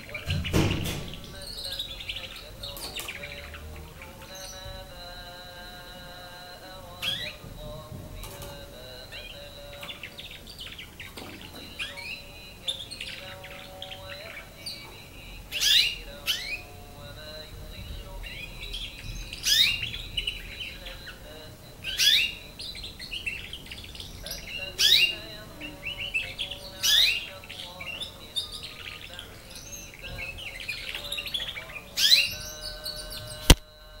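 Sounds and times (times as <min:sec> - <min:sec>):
canary twittering: 0:00.0 - 0:34.0.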